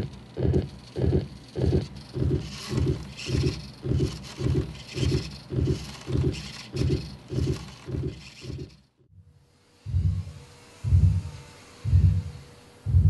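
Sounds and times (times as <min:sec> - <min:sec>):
low heartbeat thumps: 0:00.0 - 0:08.8, 0:09.9 - 0:13.0.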